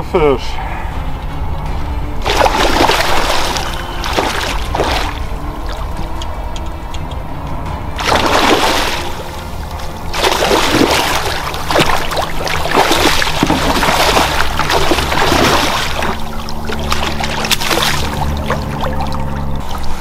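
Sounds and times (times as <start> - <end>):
water splashing and churning: 2.1 - 20.0.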